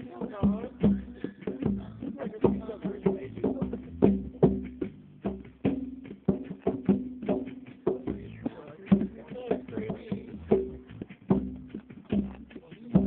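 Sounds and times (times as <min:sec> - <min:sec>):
bongos played by hand: 0:00.0 - 0:13.0.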